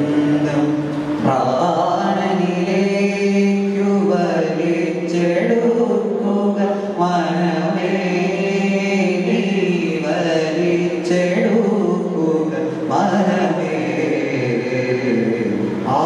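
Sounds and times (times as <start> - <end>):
man singing slow melody: 0.0 - 16.0.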